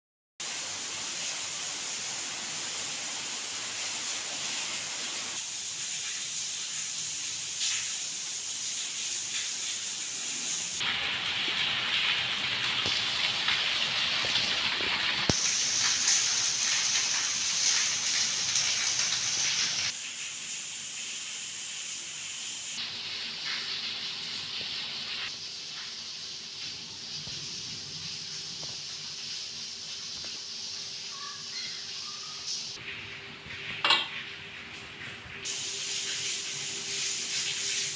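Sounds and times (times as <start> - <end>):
rain falling: 0.4 - 37.9.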